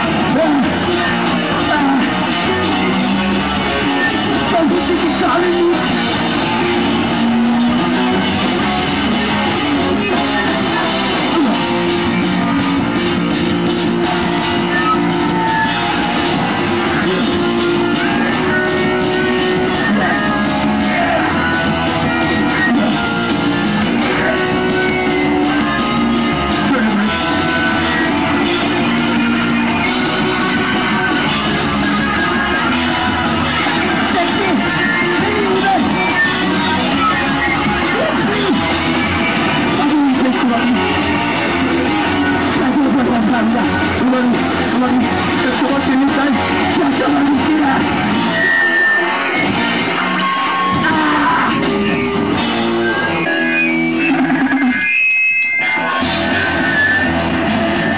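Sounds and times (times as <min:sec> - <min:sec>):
punk band playing live: 0:00.0 - 0:57.9.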